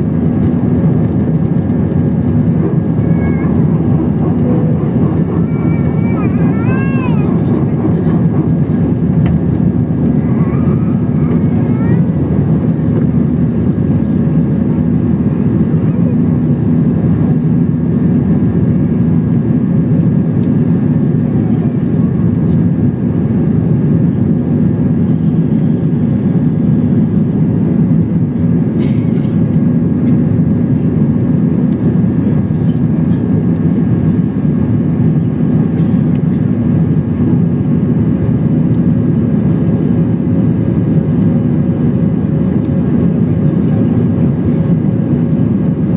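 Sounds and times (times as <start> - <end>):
jet engine cabin drone: 0.0 - 45.9.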